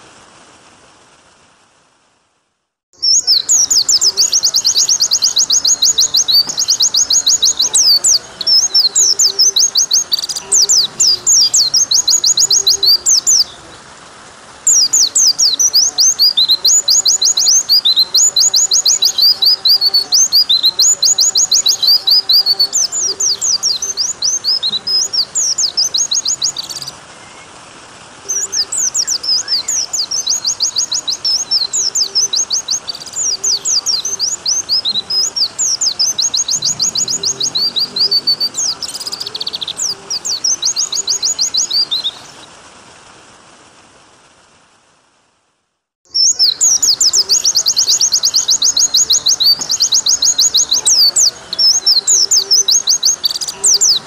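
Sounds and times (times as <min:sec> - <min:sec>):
faint water sound: 0:00.0 - 0:54.0
bird chirping trills: 0:03.0 - 0:13.8, 0:14.7 - 0:27.5, 0:28.3 - 0:42.5, 0:46.1 - 0:54.0.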